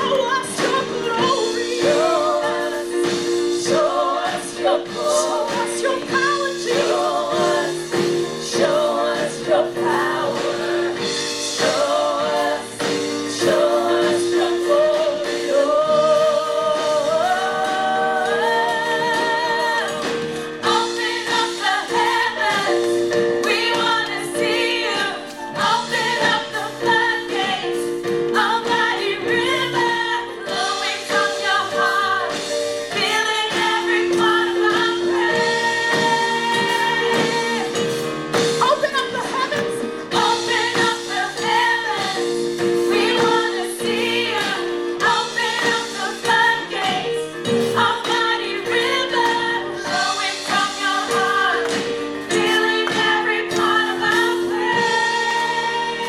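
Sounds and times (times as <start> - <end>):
singing voices: 0.0 - 38.0, 38.7 - 56.0.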